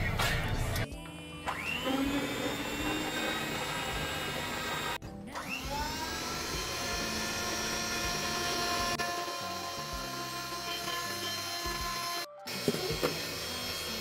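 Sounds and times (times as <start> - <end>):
electric hand mixer whine: 1.0 - 14.0.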